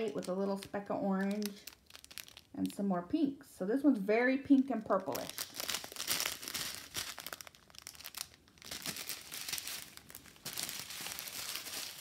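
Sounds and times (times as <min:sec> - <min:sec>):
plastic packaging crinkling: 0:00.0 - 0:02.9, 0:04.8 - 0:12.0.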